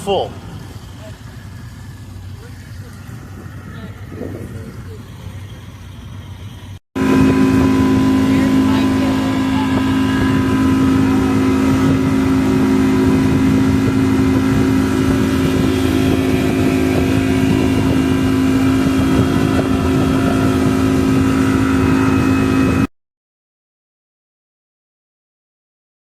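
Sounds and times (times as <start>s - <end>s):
boat engine running: 0.0s - 22.9s.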